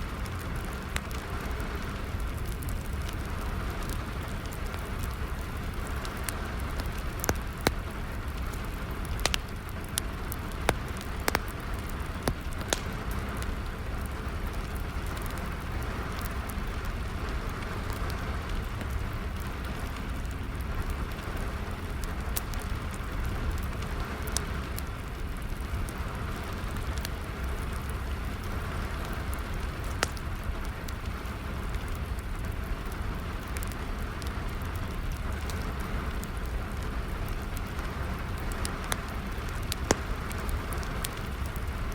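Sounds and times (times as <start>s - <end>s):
steady rain: 0.0s - 41.9s
wood fire crackling and popping: 0.0s - 41.9s.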